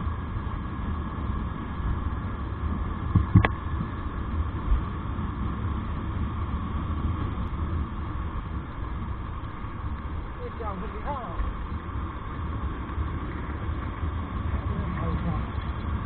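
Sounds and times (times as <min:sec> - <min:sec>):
riding noise rumble: 0:00.0 - 0:16.0.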